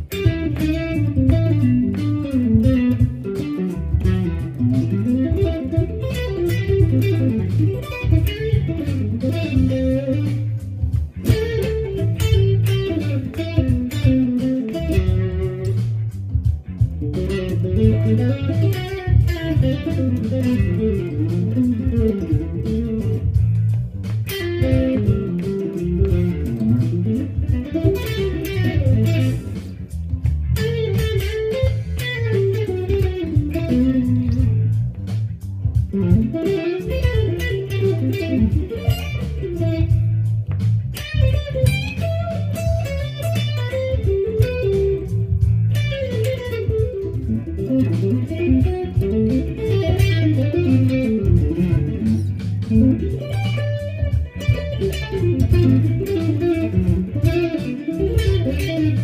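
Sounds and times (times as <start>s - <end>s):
electric guitar lead runs: 0.0s - 35.0s, 35.6s - 59.0s
bass line: 0.0s - 59.0s
drum beat: 0.0s - 59.0s.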